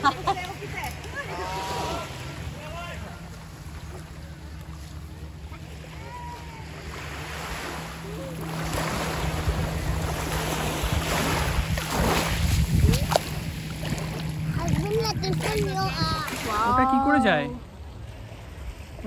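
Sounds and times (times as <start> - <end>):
small waves washing onto shore: 0.0 - 19.0.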